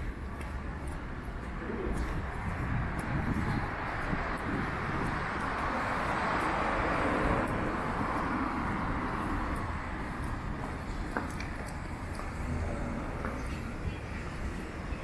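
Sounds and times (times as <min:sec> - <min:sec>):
car passing: 0:01.5 - 0:15.0.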